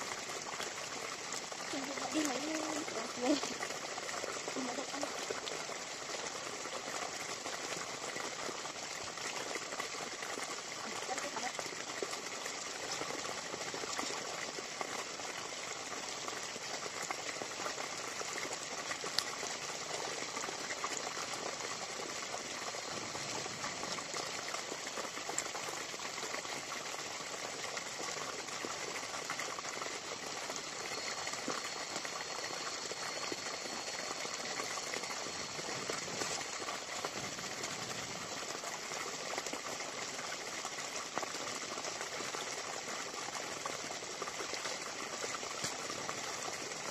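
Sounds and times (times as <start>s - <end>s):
bubbling rushing water: 0.0s - 46.9s.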